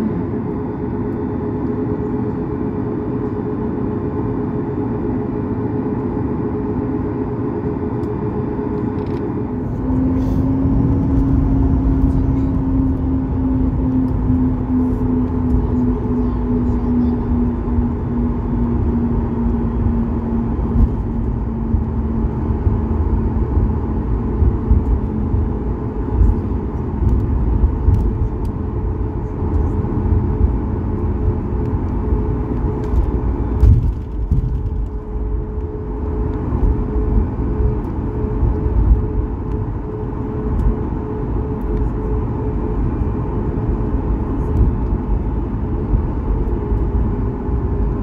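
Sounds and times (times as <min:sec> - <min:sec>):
aircraft engines rumbling: 0:00.0 - 0:48.0.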